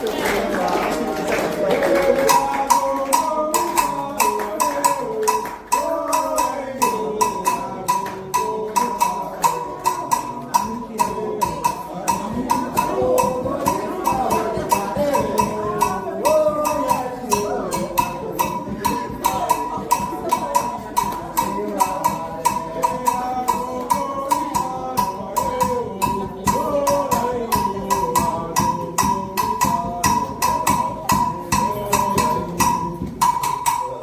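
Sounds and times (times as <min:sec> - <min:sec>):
group singing a chant: 0:00.0 - 0:34.0
hand percussion: 0:00.0 - 0:34.0
metal bell struck in rhythm: 0:00.6 - 0:34.0.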